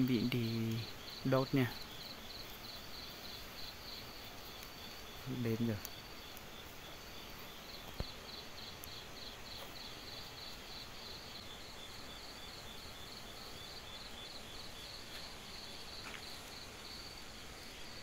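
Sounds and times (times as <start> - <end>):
background hiss: 0.0 - 18.0
insects chirping: 0.0 - 18.0.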